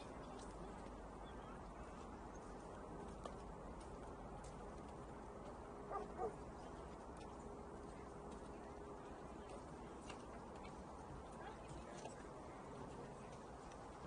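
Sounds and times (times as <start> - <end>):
waterfront background noise: 0.0 - 14.0.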